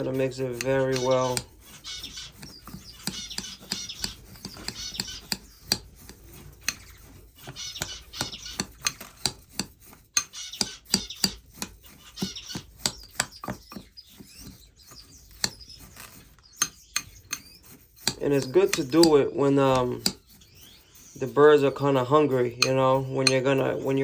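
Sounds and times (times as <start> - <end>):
finches chirping: 0.0 - 24.0
utensil scraping a container: 0.0 - 24.0.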